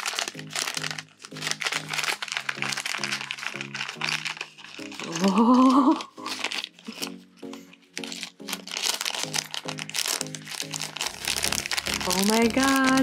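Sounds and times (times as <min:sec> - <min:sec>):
plastic pieces shaken out: 0:00.0 - 0:07.2, 0:08.0 - 0:13.0
plastic bag crinkling: 0:00.0 - 0:13.0.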